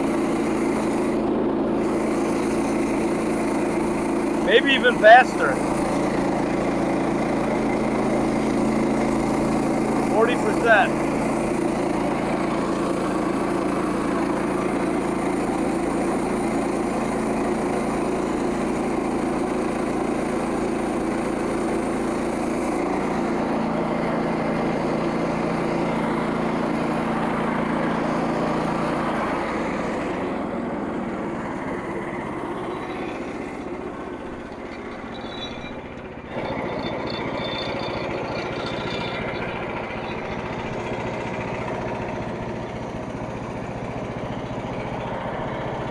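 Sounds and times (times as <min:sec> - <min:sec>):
bandsaw mill engine running: 0:00.0 - 0:45.9.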